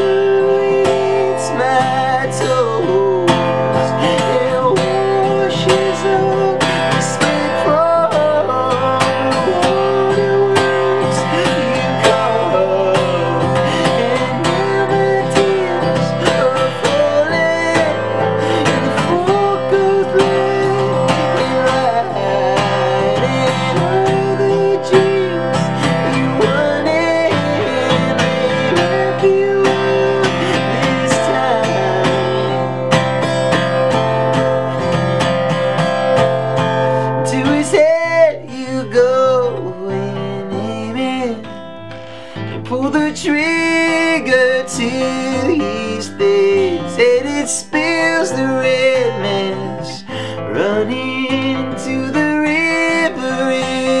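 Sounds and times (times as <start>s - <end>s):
acoustic guitar strummed: 0.0s - 54.0s.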